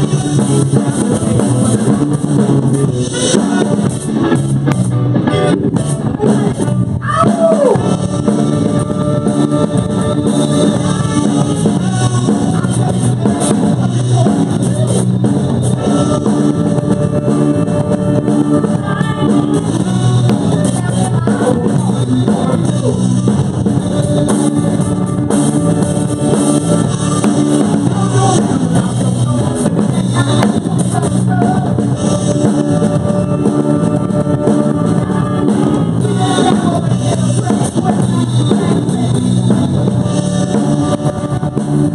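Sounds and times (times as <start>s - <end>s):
drum kit: 0.0s - 41.9s
electric guitar: 0.0s - 41.9s
person singing: 0.0s - 41.9s.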